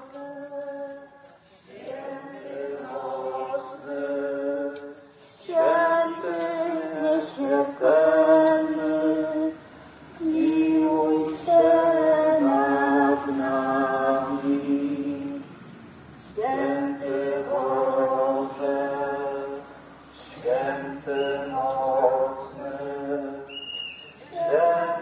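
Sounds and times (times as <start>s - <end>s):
people singing religious song: 0.0s - 25.0s.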